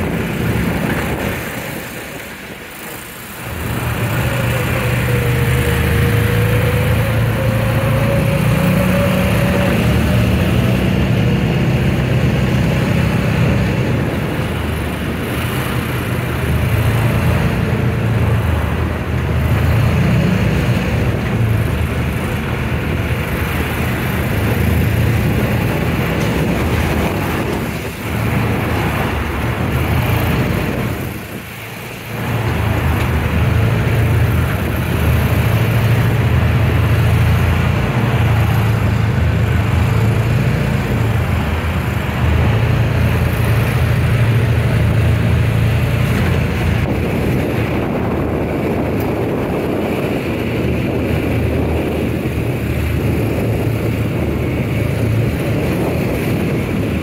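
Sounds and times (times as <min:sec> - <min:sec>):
buggy engine running: 0:00.0 - 0:57.0
road noise on gravel: 0:00.0 - 0:57.0.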